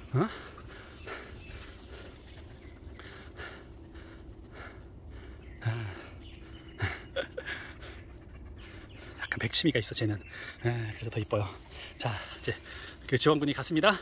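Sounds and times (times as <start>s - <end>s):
heavy panting breaths: 0.0s - 9.3s, 10.2s - 10.8s, 11.4s - 13.1s.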